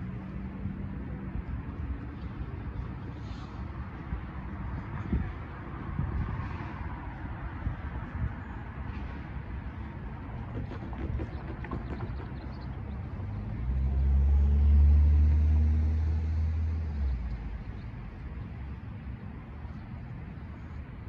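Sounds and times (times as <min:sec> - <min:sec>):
street traffic hum: 0:00.0 - 0:21.0
vehicle engine drone passing: 0:00.0 - 0:21.0.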